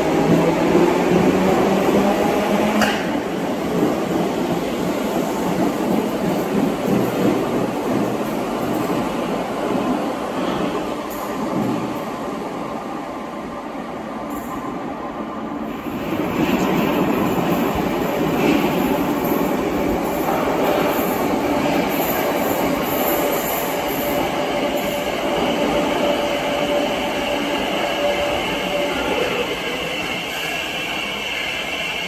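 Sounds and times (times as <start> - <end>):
train rumbling: 0.0 - 13.5, 15.6 - 32.0.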